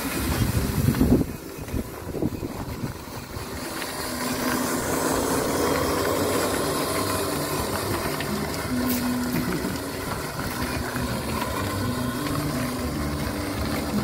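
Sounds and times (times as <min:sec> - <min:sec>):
wheels crunching on gravel: 0:00.0 - 0:14.0
toy truck motor humming: 0:00.1 - 0:14.0.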